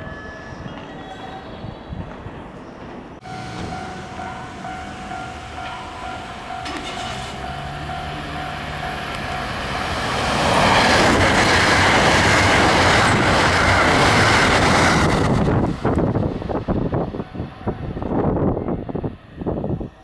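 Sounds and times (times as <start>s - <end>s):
train running past: 0.1s - 20.0s.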